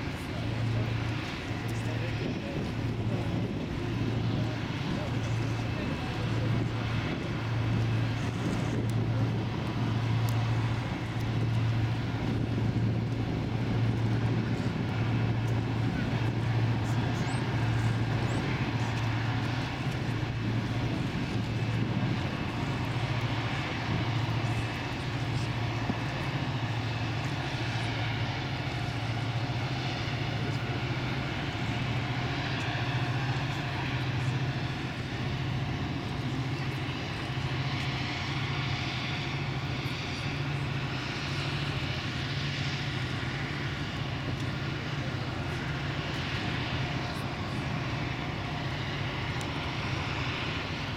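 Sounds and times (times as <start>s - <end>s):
diesel engines droning: 0.0s - 50.9s.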